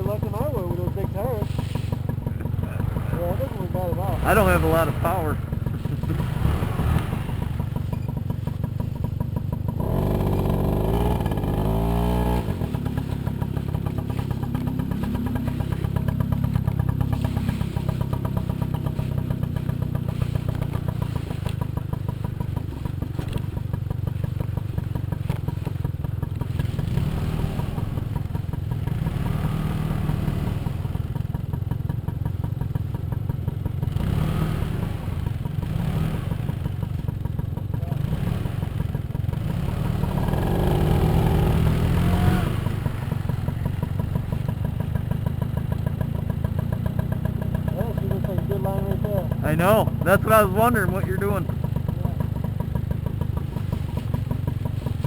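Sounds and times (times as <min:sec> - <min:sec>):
moped engine revving: 0:00.0 - 0:55.0.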